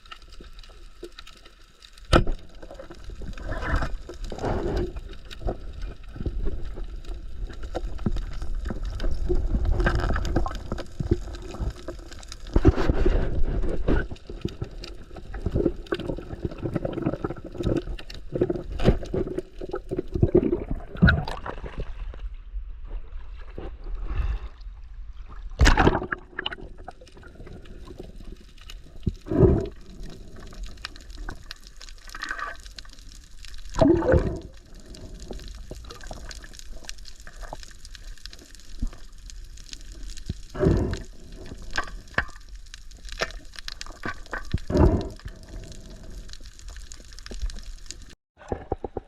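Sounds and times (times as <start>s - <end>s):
sea water gurgling and sloshing: 0.0s - 49.0s.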